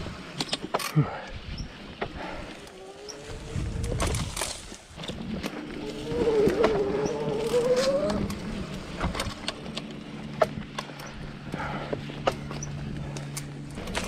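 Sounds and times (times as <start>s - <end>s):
bike knocking and rattling: 0.0s - 14.0s
low hum: 0.0s - 14.0s
electric motor whining: 1.6s - 14.0s.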